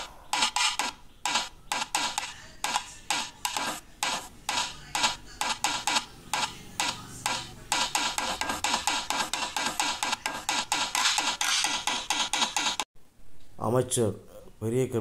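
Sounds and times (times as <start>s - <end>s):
sharp cracking drum strokes: 0.0s - 12.9s.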